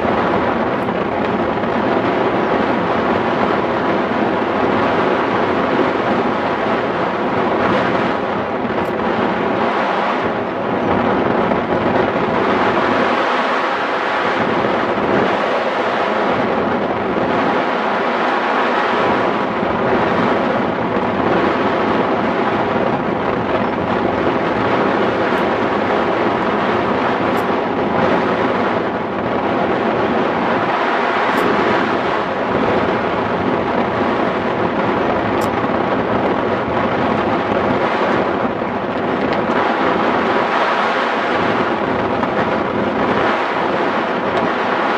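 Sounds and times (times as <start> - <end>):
loud wind noise: 0.0 - 44.9.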